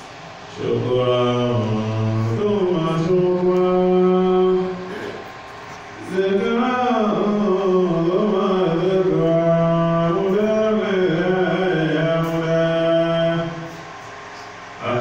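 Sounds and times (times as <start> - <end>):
man chanting: 0.5 - 5.2, 6.0 - 13.7, 14.8 - 15.0.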